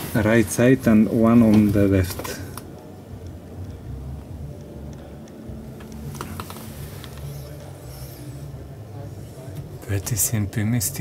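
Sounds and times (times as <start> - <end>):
low hum of indoor hall: 0.0 - 11.0.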